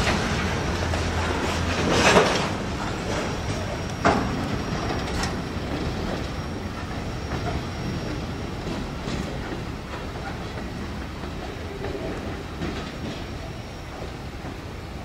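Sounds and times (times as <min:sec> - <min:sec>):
freight train rolling by: 0:00.0 - 0:15.0.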